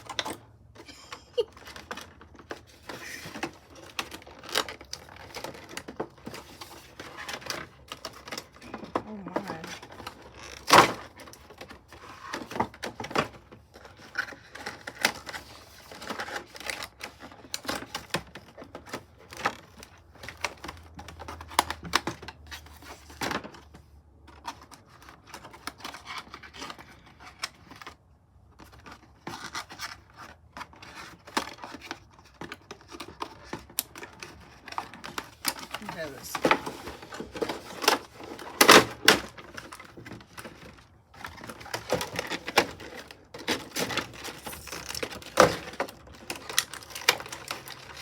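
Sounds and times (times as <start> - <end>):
plastic packaging clicking and crinkling: 0.0 - 48.0.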